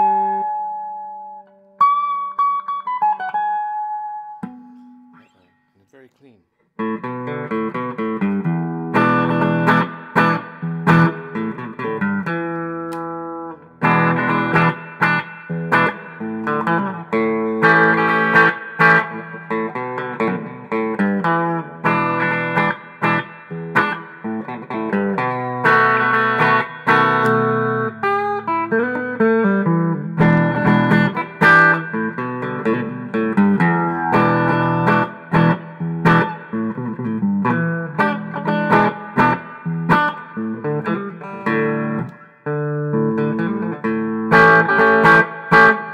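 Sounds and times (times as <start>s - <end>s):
clean electric guitar: 0.0s - 5.8s, 6.7s - 45.9s.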